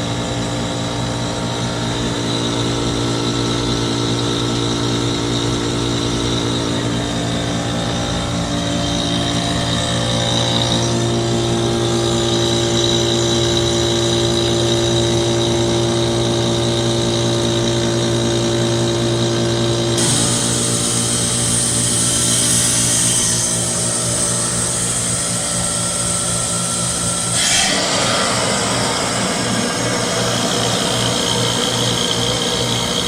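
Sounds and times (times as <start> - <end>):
heat pump mechanical hum: 0.0 - 33.0
hiss of rushing refrigerant: 5.1 - 33.0.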